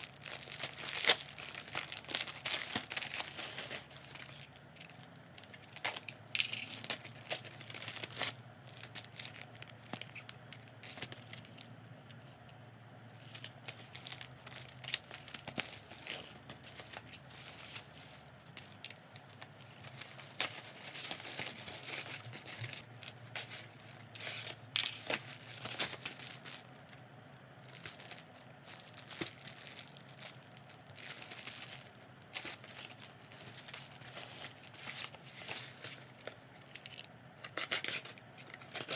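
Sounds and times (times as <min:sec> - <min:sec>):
packaging crinkling and tearing: 0:00.0 - 0:11.8, 0:13.2 - 0:38.9.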